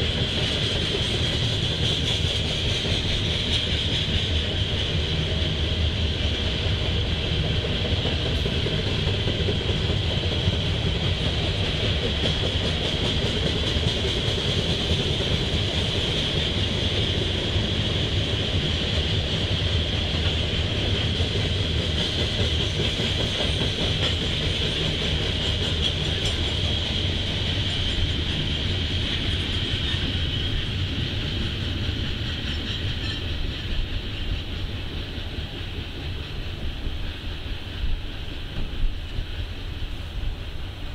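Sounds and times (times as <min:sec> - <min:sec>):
steel wheels rumbling on rails: 0:00.0 - 0:40.9.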